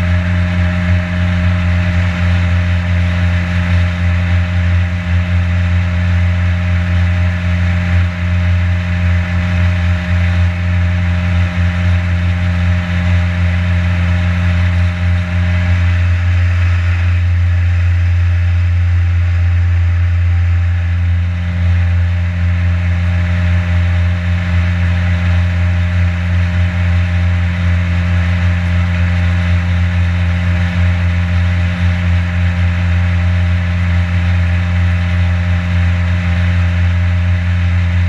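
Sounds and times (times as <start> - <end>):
boat motor droning: 0.0 - 38.0.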